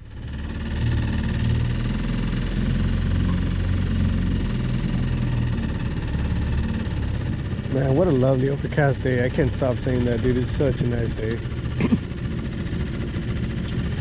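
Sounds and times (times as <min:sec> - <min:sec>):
outboard engine running: 0:00.0 - 0:14.0.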